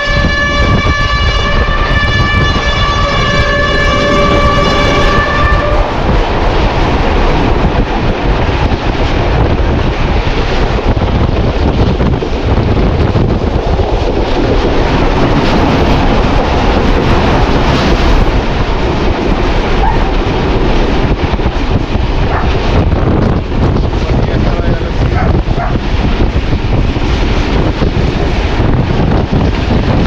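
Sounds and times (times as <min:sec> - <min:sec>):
moving train rumble: 0:00.0 - 0:30.0
wind buffeting microphone: 0:00.0 - 0:30.0.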